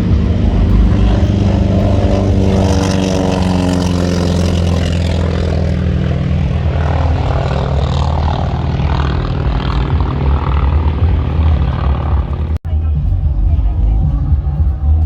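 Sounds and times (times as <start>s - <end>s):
propeller airplane engine: 0.0s - 12.7s.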